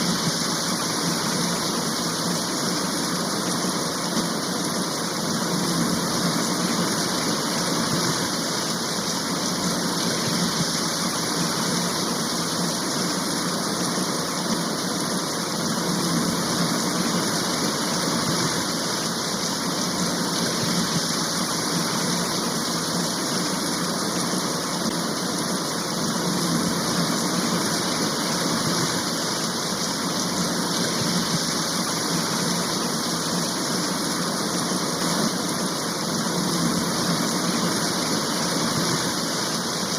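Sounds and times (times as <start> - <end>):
heavy rain shower hiss: 0.0 - 39.9.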